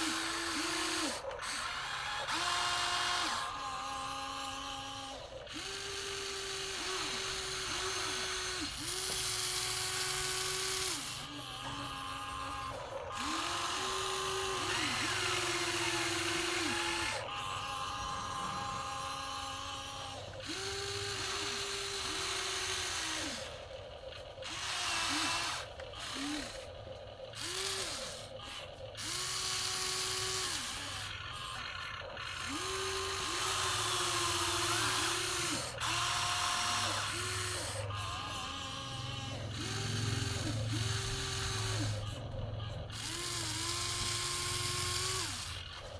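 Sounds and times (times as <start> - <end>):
toy electric motors whining: 0.0 - 45.9.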